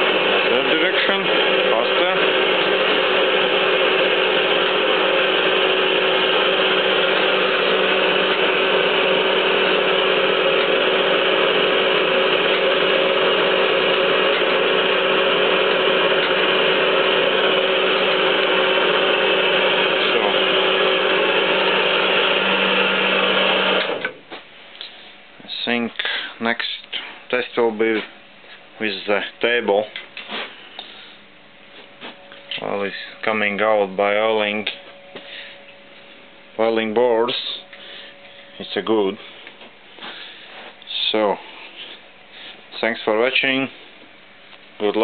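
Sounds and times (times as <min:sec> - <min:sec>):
hydraulic pump hum and whine: 0:00.0 - 0:45.0.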